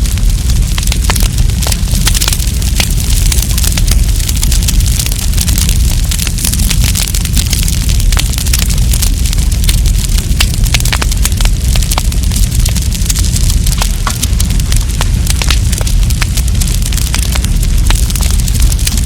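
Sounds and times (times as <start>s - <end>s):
campfire crackling and popping: 0.0s - 19.0s
fire low rumble: 0.0s - 19.0s.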